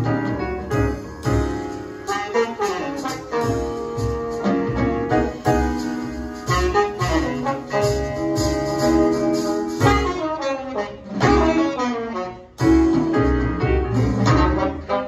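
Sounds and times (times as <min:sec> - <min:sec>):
jazz ensemble: 0:00.0 - 0:15.0.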